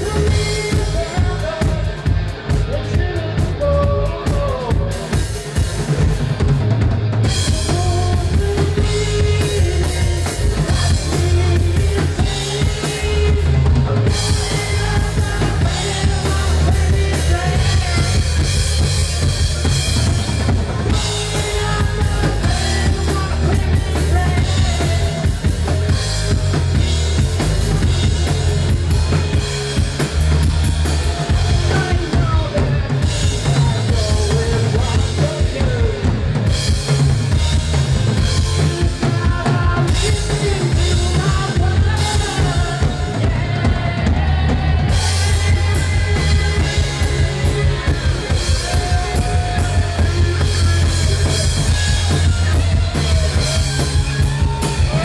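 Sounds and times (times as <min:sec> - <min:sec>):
distorted electric guitars: 0:00.0 - 0:55.0
drum kit beat: 0:00.0 - 0:55.0
live rock band: 0:00.0 - 0:55.0.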